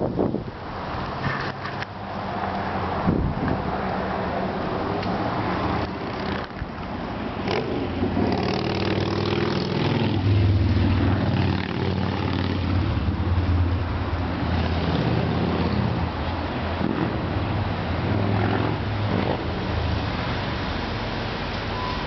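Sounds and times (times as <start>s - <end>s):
large vehicle engine humming: 0.0s - 22.0s.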